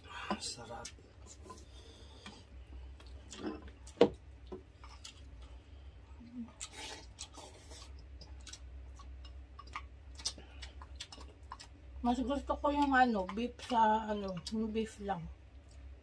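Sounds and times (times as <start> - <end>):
chewing: 0.5 - 5.6, 6.2 - 14.7.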